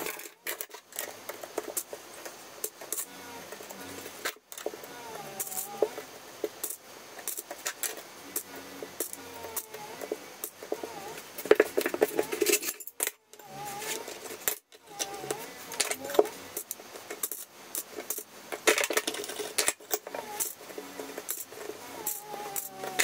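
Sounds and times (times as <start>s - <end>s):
plastic spacers clicking: 0.0s - 23.0s.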